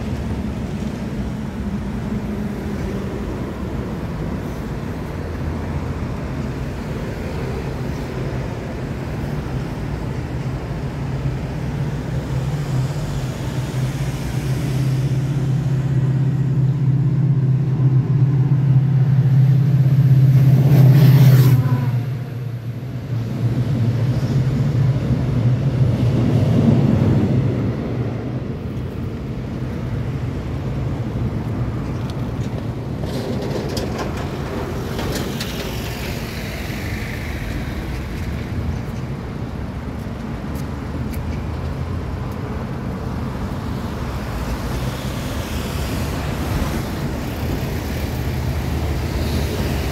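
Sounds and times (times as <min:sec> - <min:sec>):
traffic rumble: 0:00.0 - 0:49.9.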